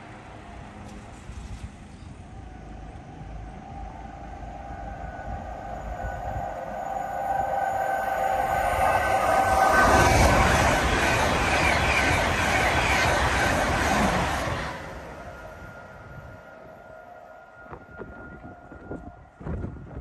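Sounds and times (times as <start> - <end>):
train approaching: 0.0 - 20.0.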